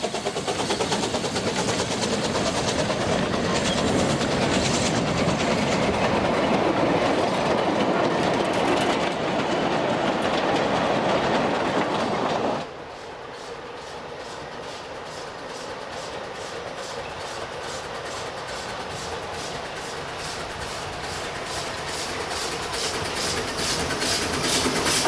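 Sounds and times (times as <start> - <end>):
train wheels clattering: 0.0 - 25.0.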